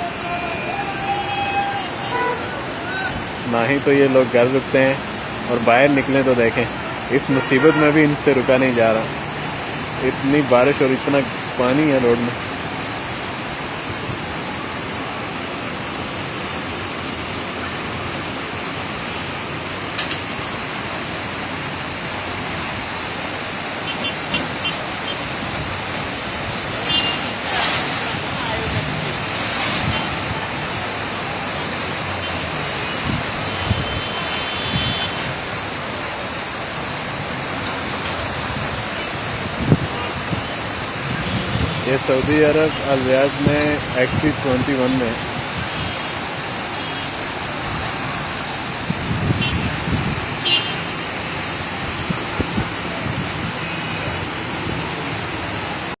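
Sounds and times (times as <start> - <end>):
traffic driving through water: 0.0 - 56.0
water rushing on road: 0.0 - 56.0.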